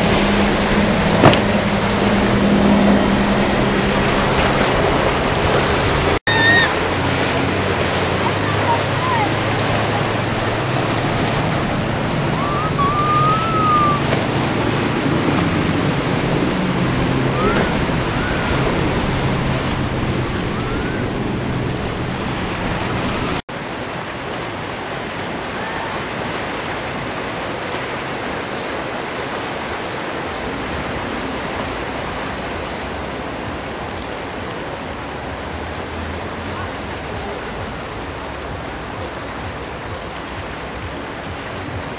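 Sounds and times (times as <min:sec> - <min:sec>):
boat wake washing: 0:00.0 - 0:41.9
jet ski water rush: 0:00.0 - 0:41.9
low engine hum: 0:00.0 - 0:41.9.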